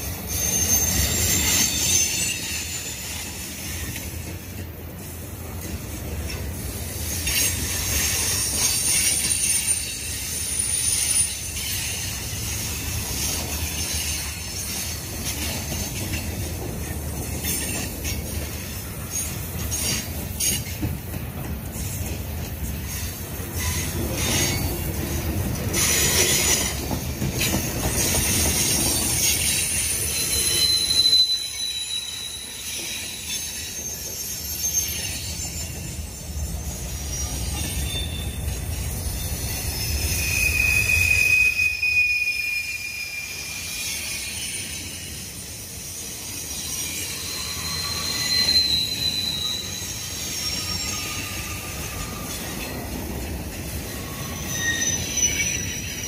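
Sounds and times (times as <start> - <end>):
train wheels rumbling on rail: 0.0 - 56.0
high-pitched wheel squeal: 0.2 - 3.9, 7.1 - 16.3, 22.8 - 25.0, 25.7 - 56.0.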